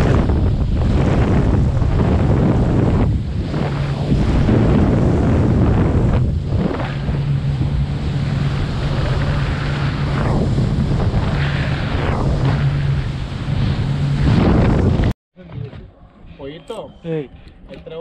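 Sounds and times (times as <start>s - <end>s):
wind buffeting microphone: 0.0s - 15.2s
sea washing around hull: 0.0s - 15.6s
boat motor humming: 0.0s - 18.0s.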